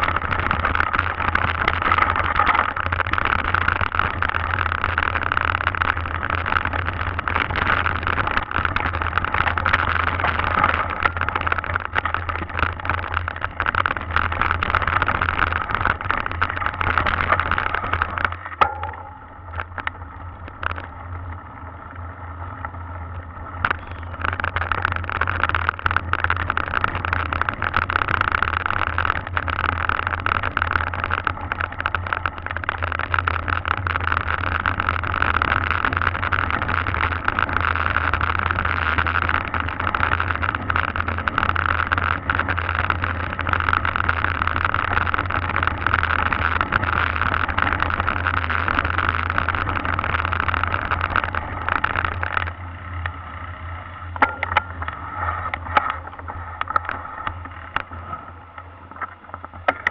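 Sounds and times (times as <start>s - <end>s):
bike rumbling over cobblestones: 0.0s - 59.9s.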